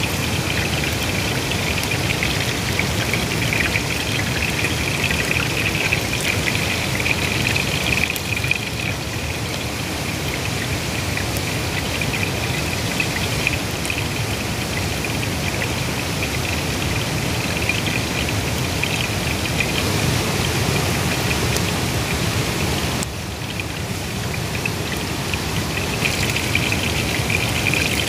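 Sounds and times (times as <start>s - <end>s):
oil sizzling and crackling: 0.0s - 28.0s.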